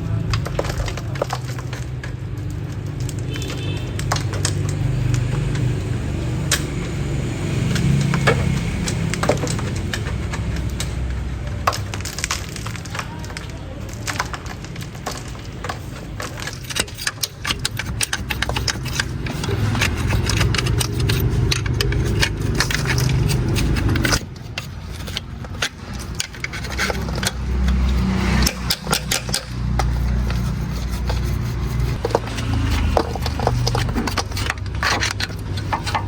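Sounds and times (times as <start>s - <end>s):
metallic clicks knocks and scrapes: 0.1s - 36.0s.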